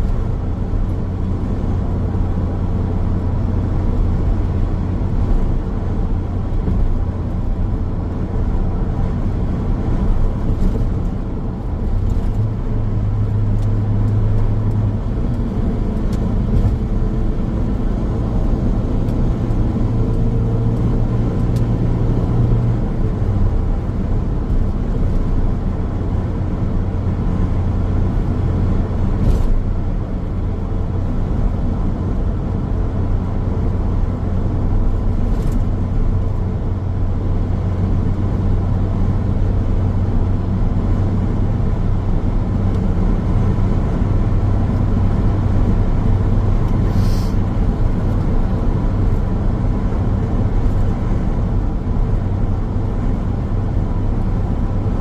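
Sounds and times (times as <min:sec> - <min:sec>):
car engine hum: 0:00.0 - 0:55.0
tyre and road noise: 0:00.0 - 0:55.0.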